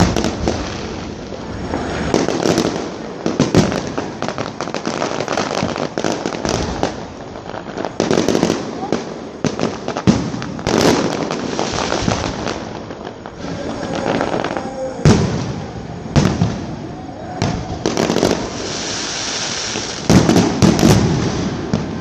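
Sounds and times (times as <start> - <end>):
firework bangs: 0.0 - 22.0
fireworks crackling: 0.0 - 22.0.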